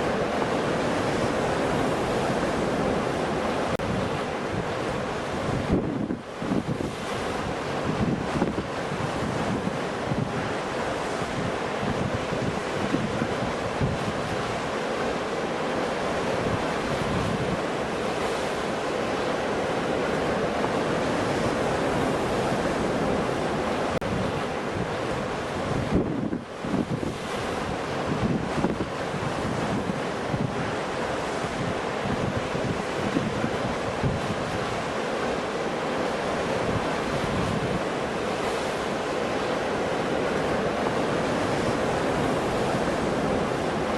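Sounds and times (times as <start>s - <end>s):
storm wind buffeting microphone: 0.0s - 14.7s, 15.8s - 18.6s, 19.2s - 43.9s.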